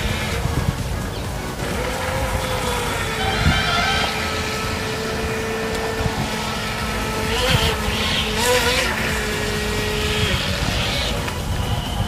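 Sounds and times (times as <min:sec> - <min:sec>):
hissing water spray: 0:00.0 - 0:12.0
small electric motor whining: 0:00.0 - 0:12.0.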